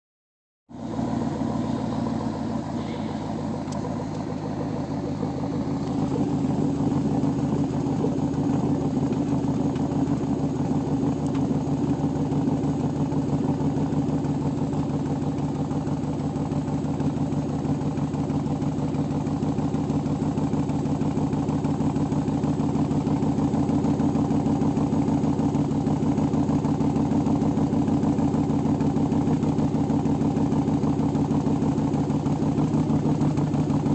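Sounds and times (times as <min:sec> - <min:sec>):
car engine running steadily: 0:00.7 - 0:33.9.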